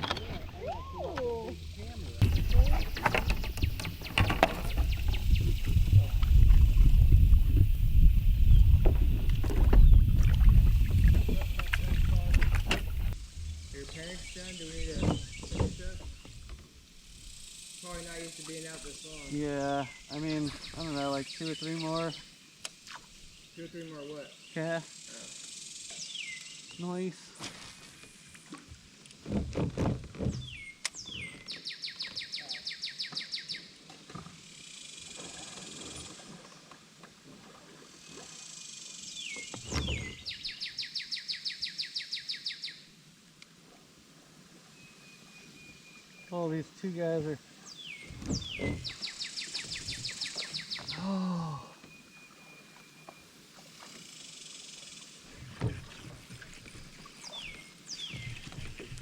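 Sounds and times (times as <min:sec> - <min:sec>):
low water noise: 0:00.0 - 0:32.8, 0:33.4 - 0:59.0.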